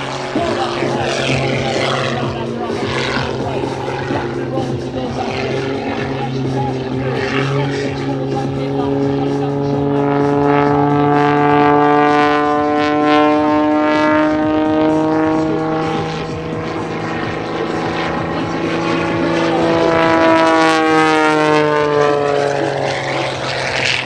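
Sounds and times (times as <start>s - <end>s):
propeller airplane flying past: 0.0s - 24.0s.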